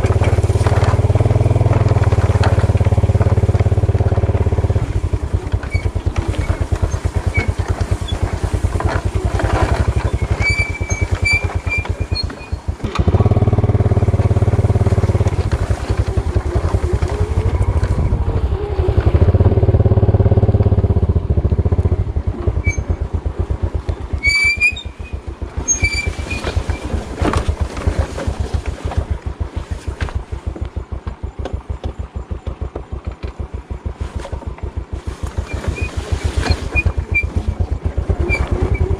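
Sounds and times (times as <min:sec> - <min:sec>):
small motorbike engine running: 0:00.0 - 0:38.9.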